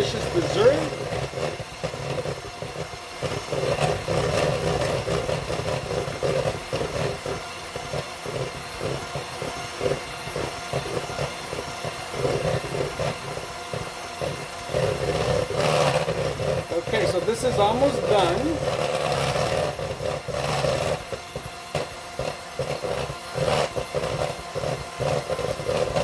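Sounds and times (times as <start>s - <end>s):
electric hand mixer whipping cream: 0.0s - 26.0s.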